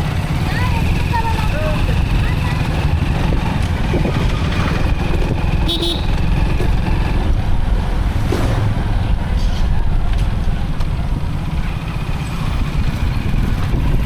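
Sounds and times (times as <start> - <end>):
motorcycle engine rumble: 0.0 - 14.0
wind on microphone: 2.0 - 11.8, 12.4 - 14.0.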